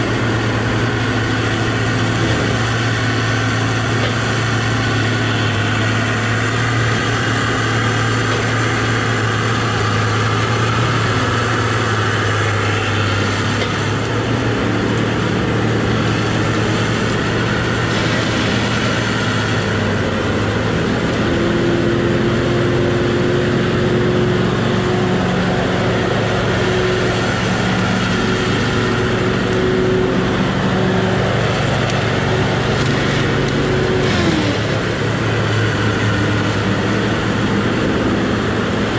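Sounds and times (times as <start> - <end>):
diesel engine running: 0.0 - 38.9
steady higher whine: 0.0 - 38.9.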